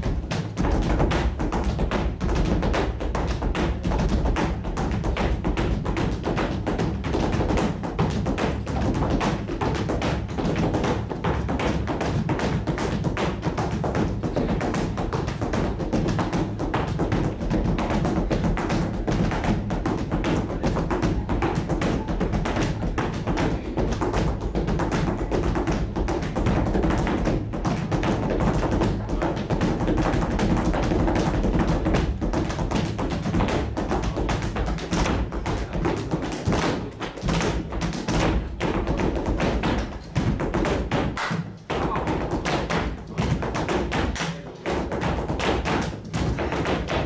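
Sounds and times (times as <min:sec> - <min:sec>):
dancer's shoes striking stage: 0:00.0 - 0:47.0.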